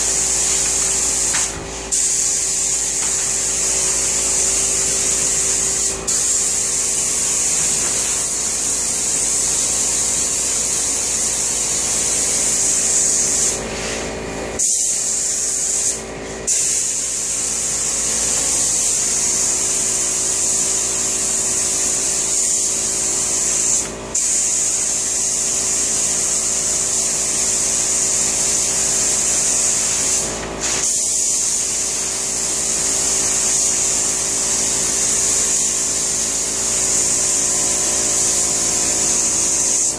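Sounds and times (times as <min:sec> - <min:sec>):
spray gun hissing: 0:00.0 - 0:39.9.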